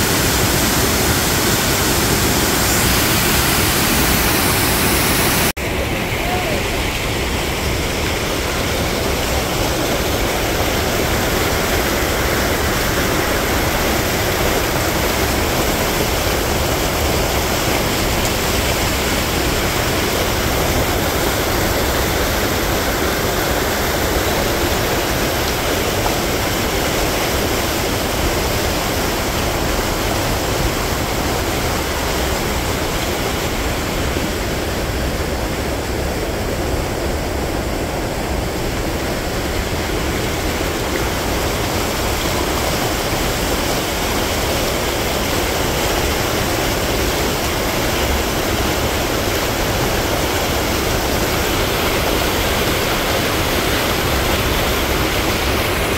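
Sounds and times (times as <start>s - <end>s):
water rushing over a weir: 0.0s - 55.9s.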